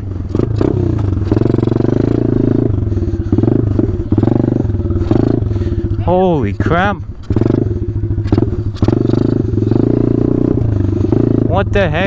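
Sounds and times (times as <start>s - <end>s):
small motorbike engine revving: 0.0s - 6.0s, 7.2s - 12.0s.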